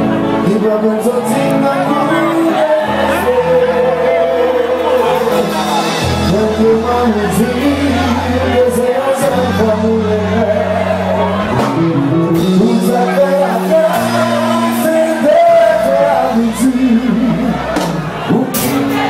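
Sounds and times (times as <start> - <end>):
crowd shouting: 0.0 - 19.0
live band playing: 0.0 - 19.0
person singing: 0.0 - 19.0.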